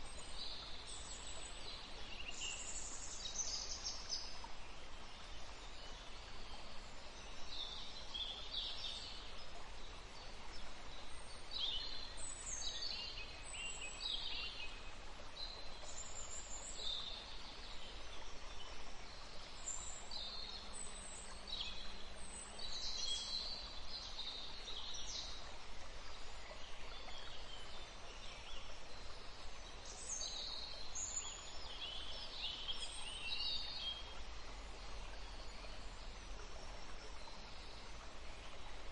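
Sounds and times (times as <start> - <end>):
songbirds singing: 0.0 - 38.9
steady background hiss: 0.0 - 38.9.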